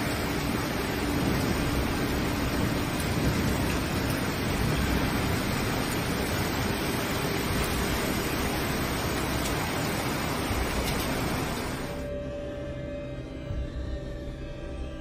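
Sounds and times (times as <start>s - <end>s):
floodwater rushing: 0.0s - 12.1s.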